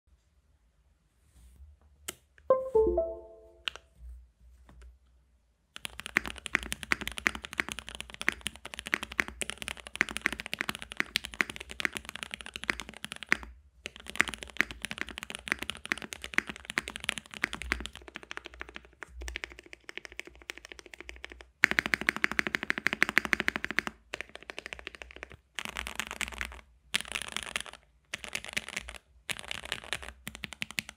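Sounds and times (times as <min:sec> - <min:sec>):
fast mechanical keyboard typing: 0:05.8 - 0:30.9.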